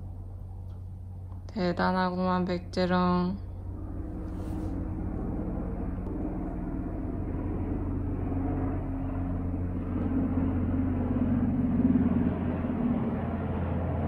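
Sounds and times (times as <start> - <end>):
helicopter flying over: 0.0 - 14.0.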